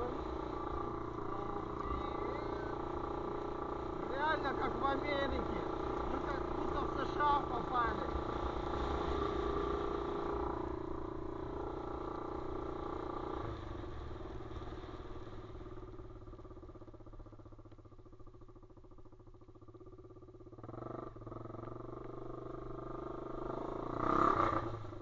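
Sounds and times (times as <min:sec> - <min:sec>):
motorbike engine running: 0:00.0 - 0:25.0.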